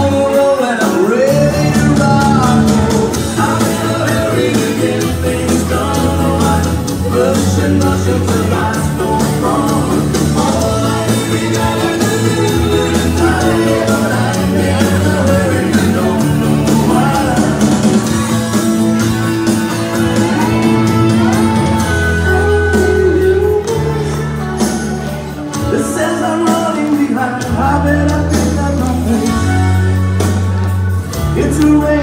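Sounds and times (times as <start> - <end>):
country song over sound system: 0.0 - 32.0.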